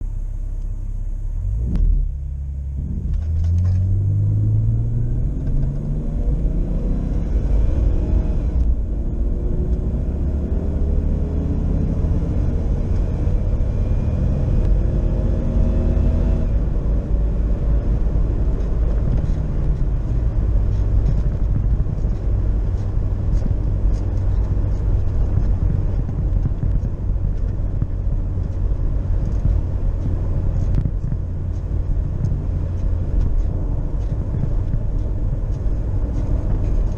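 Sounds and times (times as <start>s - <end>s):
car engine accelerating: 0.0s - 36.9s
road noise: 0.0s - 36.9s.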